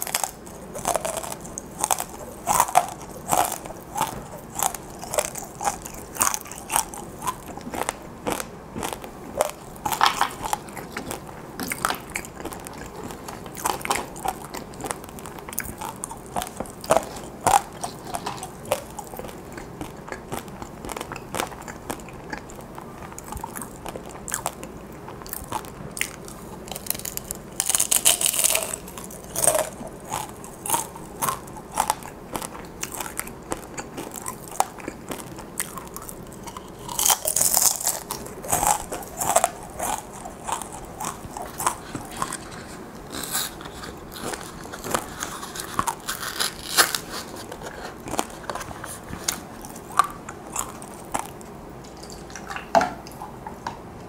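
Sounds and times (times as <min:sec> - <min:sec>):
crunchy chewing of chips: 0:00.0 - 0:54.0.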